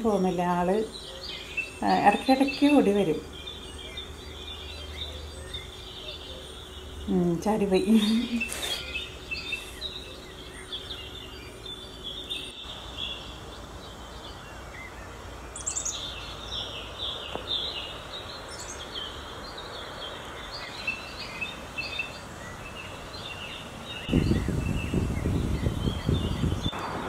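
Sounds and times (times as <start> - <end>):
birds chirping: 0.0 - 27.0
low background noise: 0.0 - 27.0.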